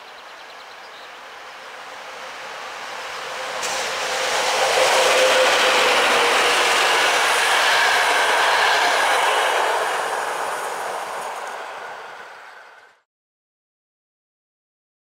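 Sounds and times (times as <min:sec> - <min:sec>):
train wheels rushing on rail: 0:00.6 - 0:13.0.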